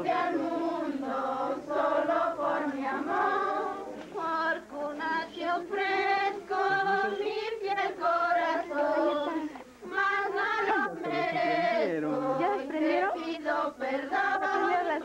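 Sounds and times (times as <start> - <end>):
group singing a carol: 0.0 - 15.0.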